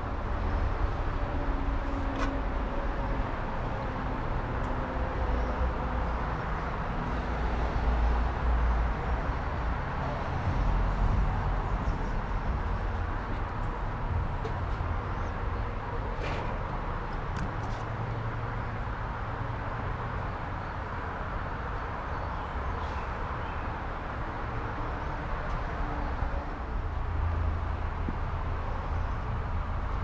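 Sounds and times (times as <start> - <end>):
outdoor background rumble: 0.0 - 30.0.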